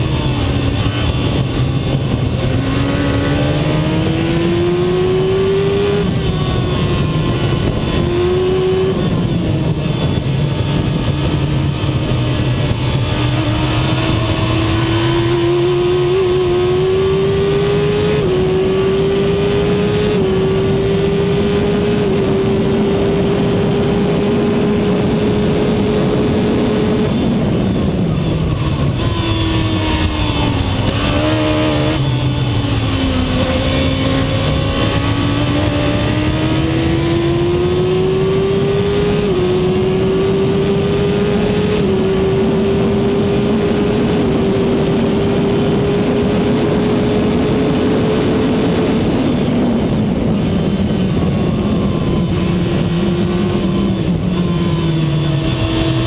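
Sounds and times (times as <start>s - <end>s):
racing car engine at high revs: 0.0s - 56.0s.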